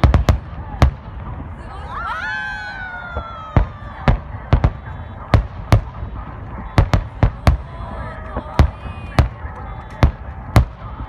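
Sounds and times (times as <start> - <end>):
fireworks booming: 0.0 - 11.0
low rumble: 0.0 - 11.0.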